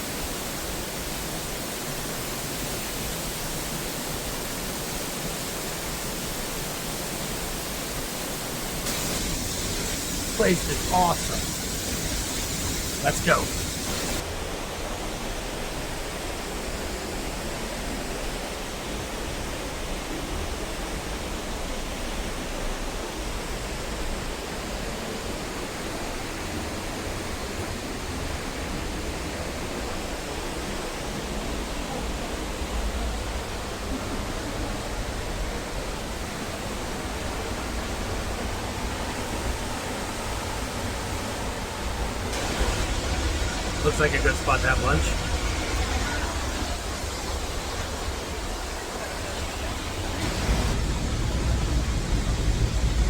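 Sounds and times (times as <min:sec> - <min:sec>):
waterfall rushing: 0:00.0 - 0:23.8, 0:24.4 - 0:53.0.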